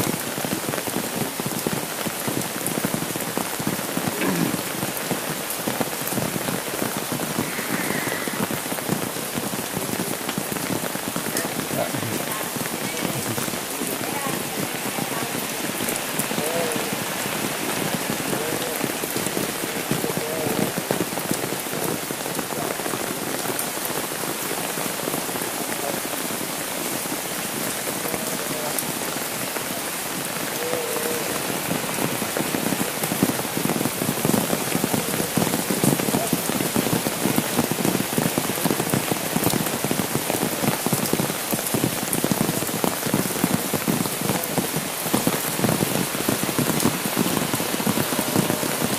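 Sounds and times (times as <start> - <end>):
rain on wet road: 0.0 - 48.9
raindrops tapping on umbrella: 0.0 - 48.9.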